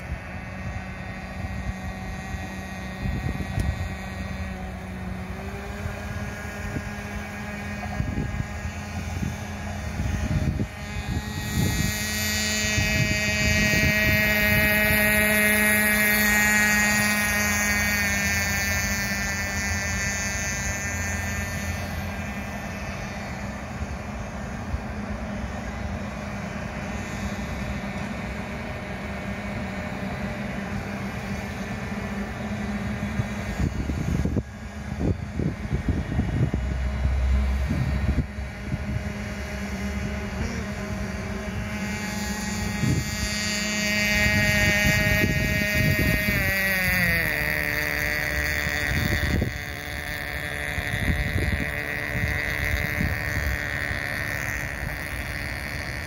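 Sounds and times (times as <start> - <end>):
model boat engine running: 0.0 - 56.0.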